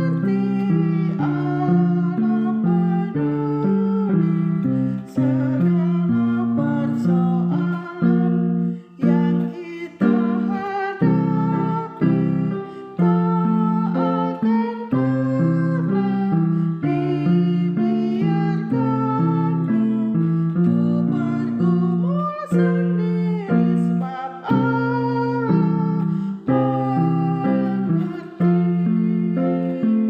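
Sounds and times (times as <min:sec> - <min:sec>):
woman singing: 0:00.0 - 0:30.0.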